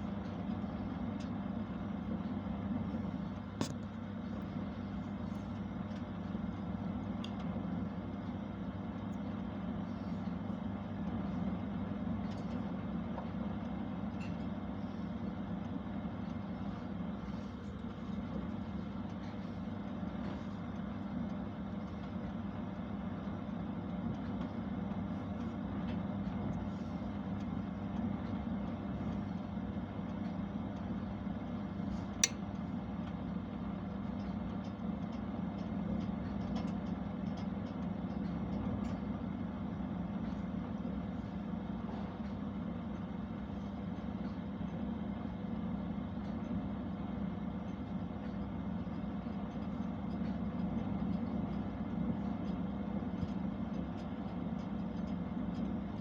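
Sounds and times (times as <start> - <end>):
oven humming: 0.0 - 56.0.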